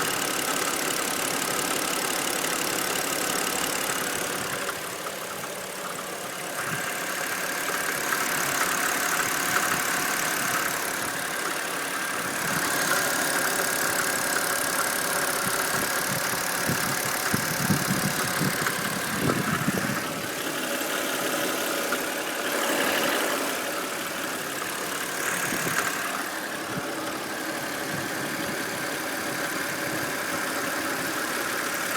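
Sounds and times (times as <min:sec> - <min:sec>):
car engine idling with knock: 0:00.0 - 0:31.9.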